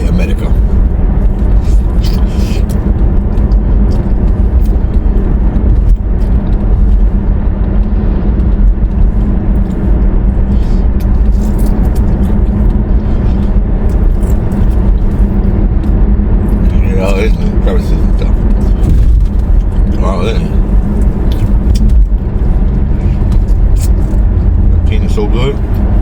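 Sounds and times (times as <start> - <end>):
car cabin engine and road rumble: 0.0 - 26.0.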